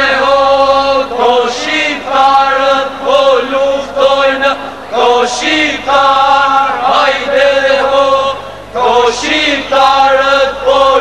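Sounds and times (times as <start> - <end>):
men singing folk song together: 0.0 - 11.0.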